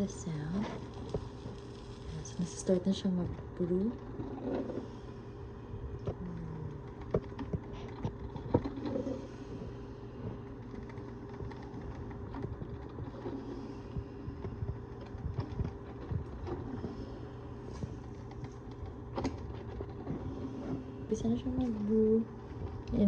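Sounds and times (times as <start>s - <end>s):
coffee maker humming: 0.0s - 23.0s.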